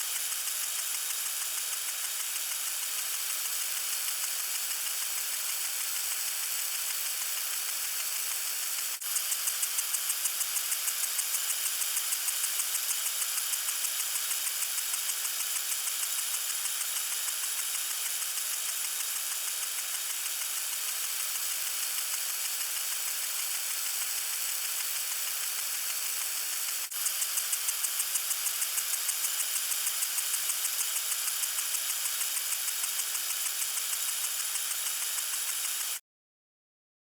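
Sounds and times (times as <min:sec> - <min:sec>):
lawn sprinkler spraying: 0:00.0 - 0:36.0.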